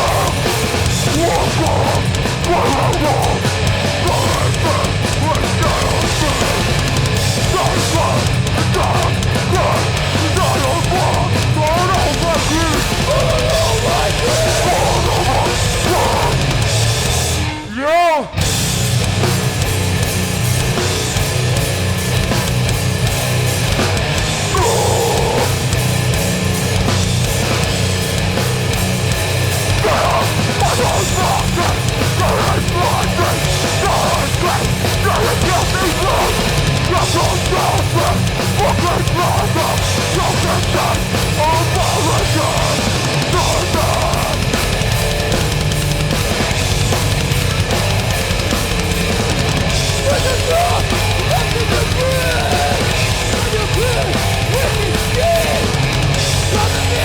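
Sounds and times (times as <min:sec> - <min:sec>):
bass guitar: 0:00.0 - 0:57.0
distorted guitars: 0:00.0 - 0:57.0
drums: 0:00.0 - 0:57.0.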